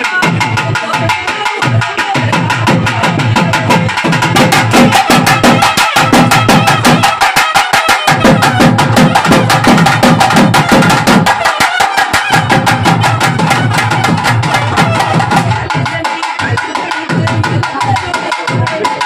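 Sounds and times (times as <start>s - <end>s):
drums beaten loud and fast: 0.0s - 19.0s.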